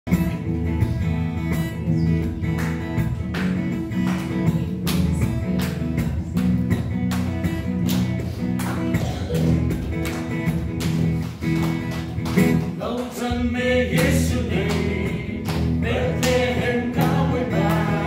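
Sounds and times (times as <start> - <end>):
acoustic guitar strumming chords: 0.1 - 18.0.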